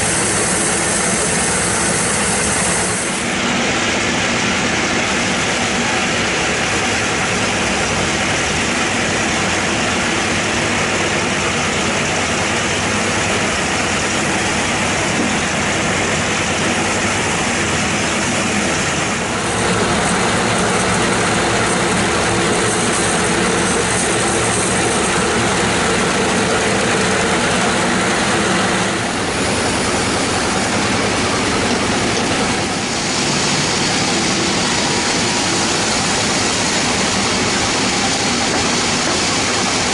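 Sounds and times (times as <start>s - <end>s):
mill motor drone: 0.0s - 39.9s.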